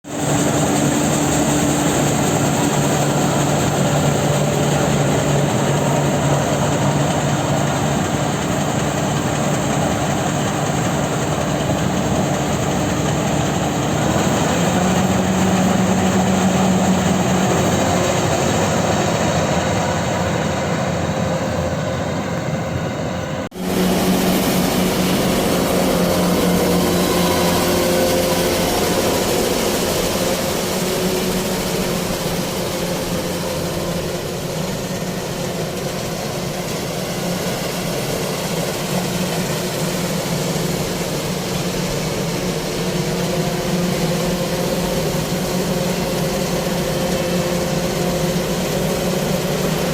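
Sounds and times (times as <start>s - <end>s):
combine harvester diesel engine: 0.0s - 49.9s.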